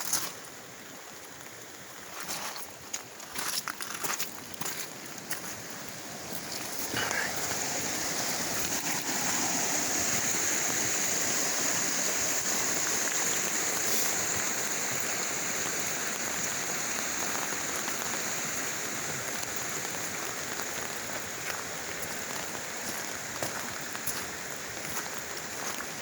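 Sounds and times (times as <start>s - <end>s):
rushing water hiss: 0.0s - 26.0s.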